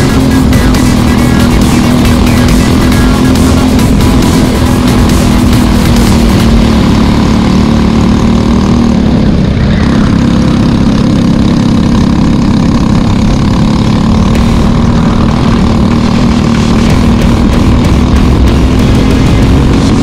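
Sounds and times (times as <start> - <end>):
kart engine running: 0.0 - 20.0.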